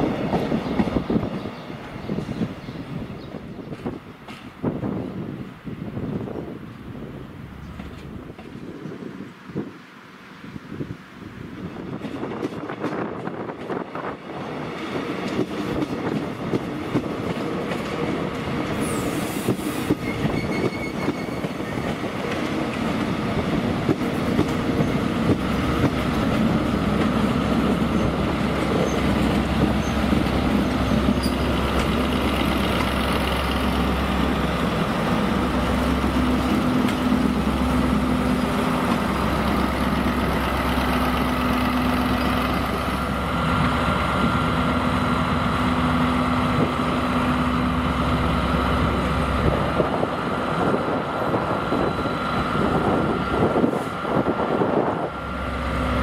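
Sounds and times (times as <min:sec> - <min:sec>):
locomotive engine hum: 0:00.0 - 0:56.0
train wheels on rails: 0:00.0 - 0:56.0.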